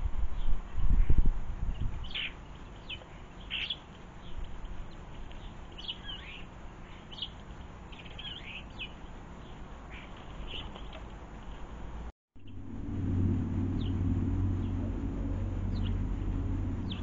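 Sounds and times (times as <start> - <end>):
low background rumble: 0.0 - 17.0
small birds chirping: 0.3 - 11.8, 13.7 - 17.0.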